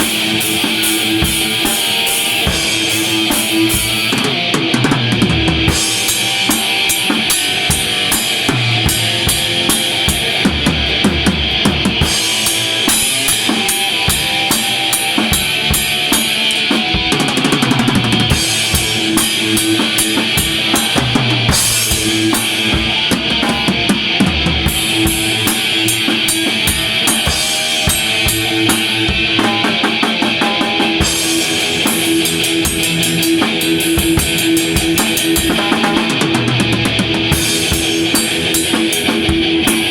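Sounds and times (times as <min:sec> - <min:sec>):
cymbals struck rapidly: 0:00.0 - 0:39.9
heavy metal band playing: 0:00.0 - 0:39.9.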